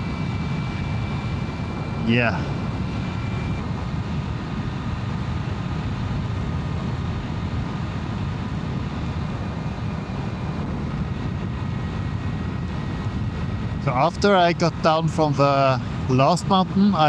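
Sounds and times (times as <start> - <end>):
electric drivetrain whine: 0.0 - 15.3
wind rush on microphone: 0.0 - 17.0.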